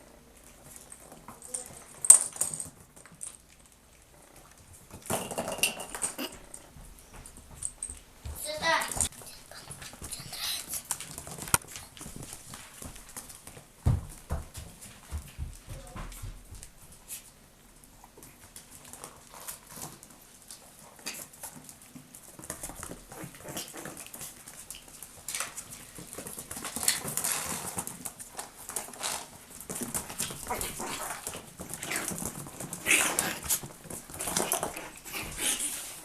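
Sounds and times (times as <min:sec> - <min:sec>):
puppy claws clicking and scuffing: 0:00.3 - 0:36.0.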